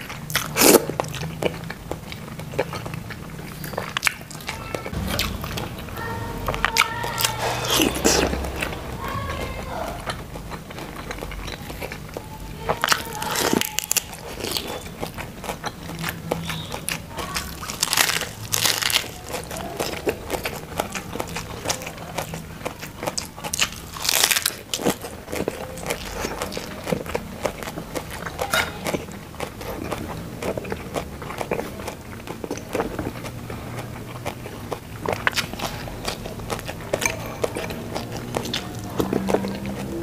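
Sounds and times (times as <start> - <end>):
wet mouth chewing clicks: 0.0 - 5.9, 9.8 - 40.0
lettuce crunching: 0.0 - 40.0.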